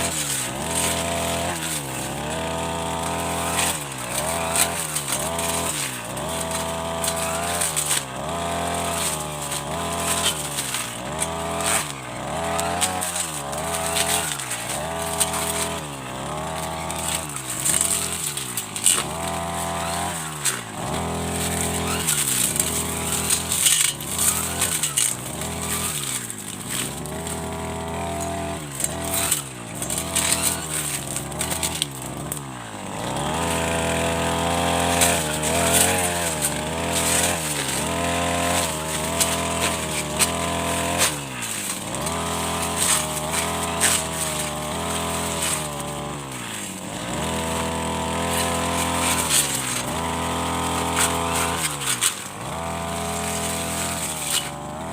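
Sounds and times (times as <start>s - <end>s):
brush cutter engine revving: 0.0s - 54.9s.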